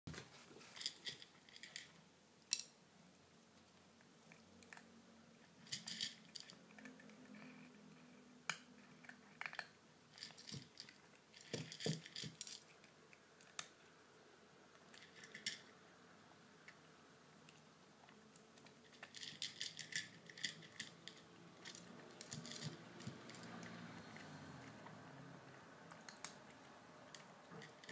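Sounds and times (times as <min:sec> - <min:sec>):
kitten crunching dry kibble: 0:00.5 - 0:02.0, 0:03.6 - 0:13.9, 0:14.7 - 0:15.8, 0:16.6 - 0:27.9.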